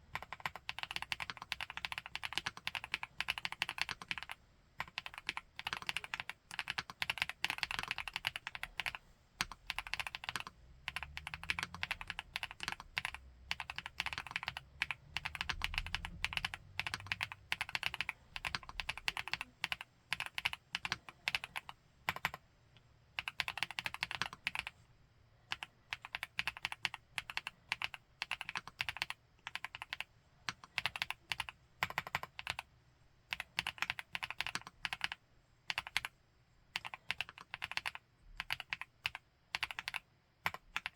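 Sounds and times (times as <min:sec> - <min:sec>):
fast mechanical keyboard typing: 0:00.1 - 0:22.4, 0:23.2 - 0:24.7, 0:25.5 - 0:32.7, 0:33.3 - 0:36.1, 0:36.7 - 0:40.9.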